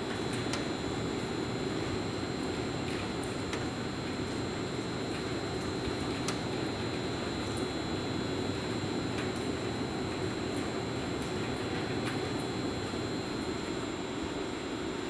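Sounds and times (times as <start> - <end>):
electric train hum and hiss: 0.0 - 15.0.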